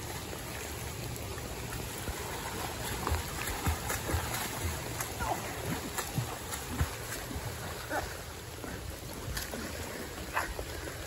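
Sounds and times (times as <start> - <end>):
floodwater rushing in creek: 0.0 - 11.0.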